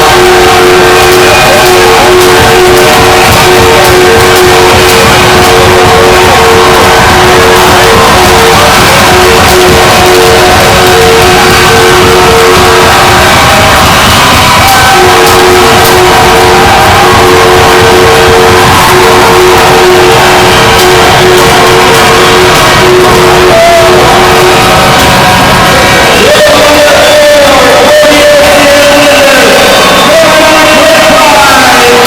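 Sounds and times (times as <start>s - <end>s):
arena crowd cheering: 0.0s - 32.0s.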